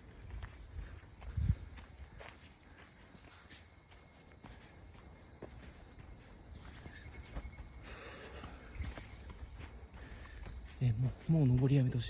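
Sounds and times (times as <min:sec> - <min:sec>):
faint footsteps on trail: 0:00.0 - 0:12.0
insects singing: 0:00.0 - 0:12.0.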